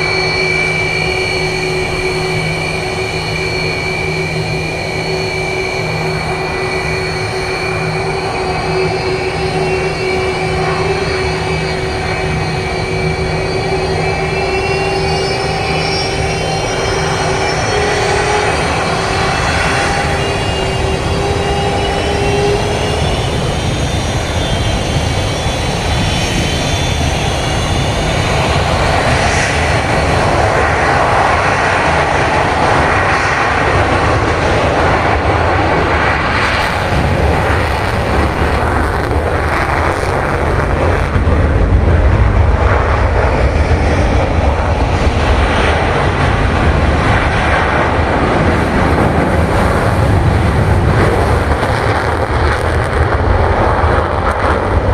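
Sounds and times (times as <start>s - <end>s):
jet engine deep rumble: 0.0s - 54.9s
jet engines high whine: 0.0s - 54.9s.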